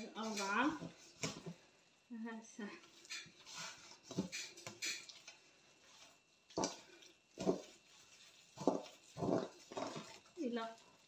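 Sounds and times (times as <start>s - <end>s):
spoon mixing in metal bowl: 0.0s - 1.6s, 2.8s - 11.0s.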